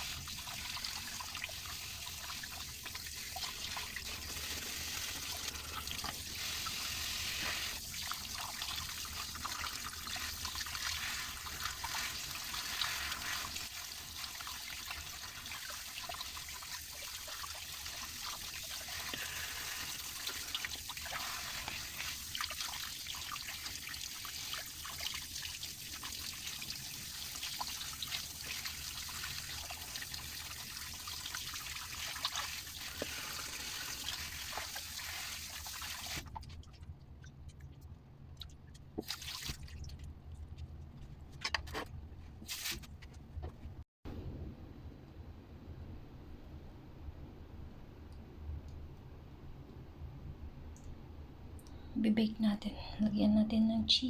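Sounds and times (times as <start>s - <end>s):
tap water running: 0.0s - 43.6s.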